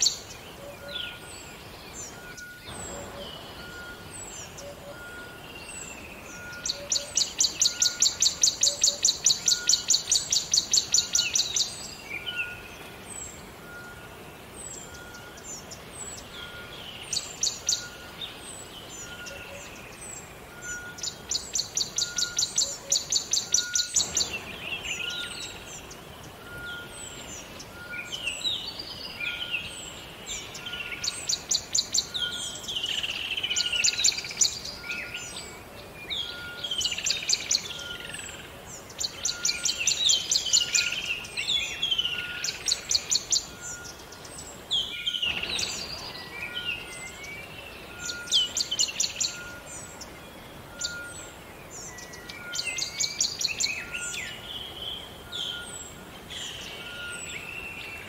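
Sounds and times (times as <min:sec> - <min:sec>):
flowing river water: 0:00.0 - 0:58.0
songbirds singing: 0:00.0 - 0:58.0.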